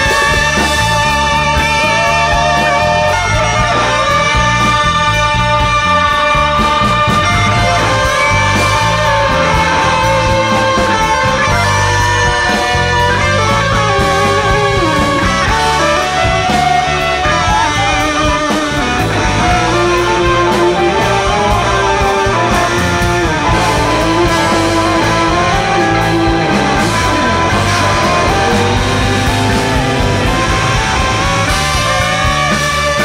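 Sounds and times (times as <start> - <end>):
electric guitar: 0.0 - 33.0
jazz-rock band playing live: 0.0 - 33.0.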